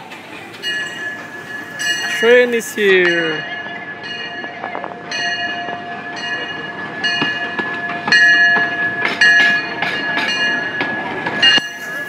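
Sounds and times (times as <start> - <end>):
locomotive bell ringing: 0.0 - 12.0
train rumbling and clanking: 0.0 - 12.0.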